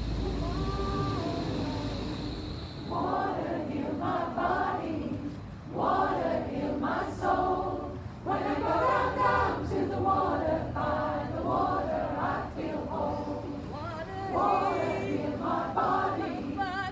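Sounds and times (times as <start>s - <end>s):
choir singing a cappella: 0.0s - 16.9s.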